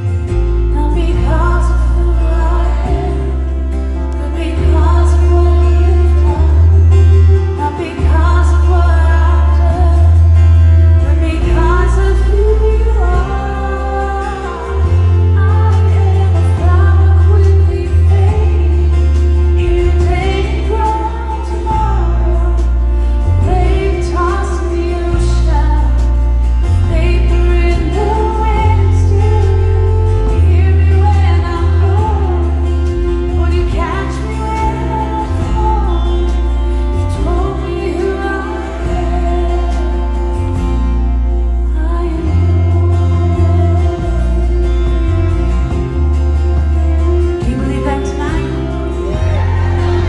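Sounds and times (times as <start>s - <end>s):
acoustic guitar: 0.0s - 50.0s
deep bass notes: 0.0s - 50.0s
woman singing: 0.0s - 50.0s.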